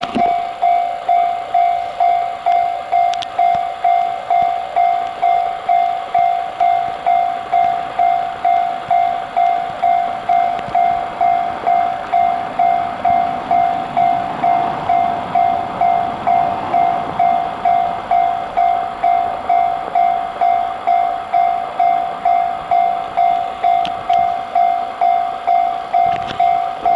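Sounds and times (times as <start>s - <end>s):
level crossing alarm clanging: 0.0s - 26.9s
train running noise: 0.0s - 26.9s.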